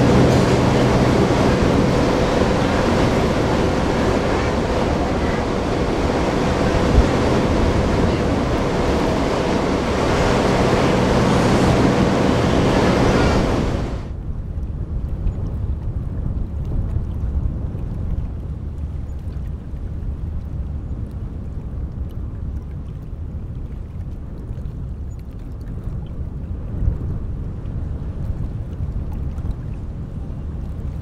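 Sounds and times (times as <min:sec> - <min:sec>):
ship low drone: 0:00.0 - 0:31.0
wind buffeting microphone: 0:00.0 - 0:31.0.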